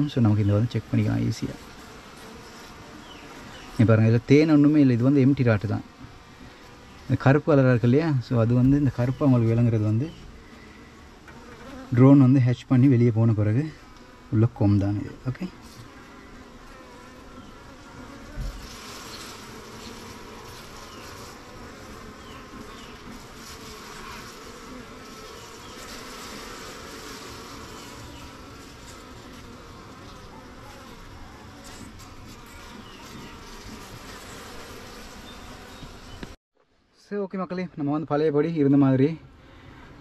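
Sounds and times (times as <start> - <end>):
honey bees buzzing: 0.0 - 36.4.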